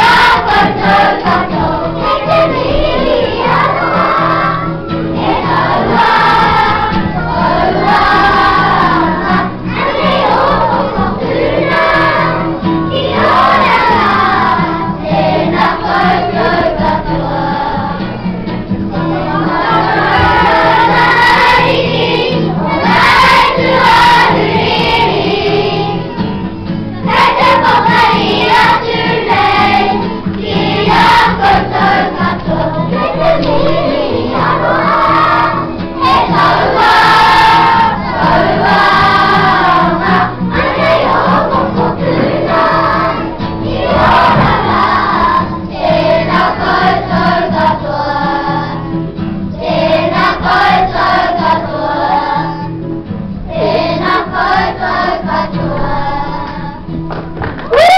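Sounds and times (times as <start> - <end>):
children singing together: 0.0 - 57.0.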